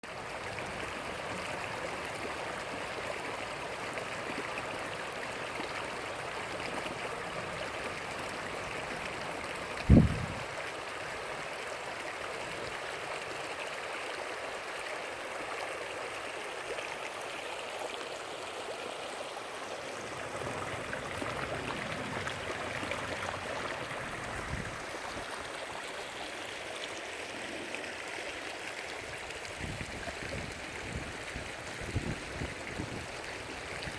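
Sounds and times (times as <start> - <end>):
creek water rushing: 0.0 - 33.9.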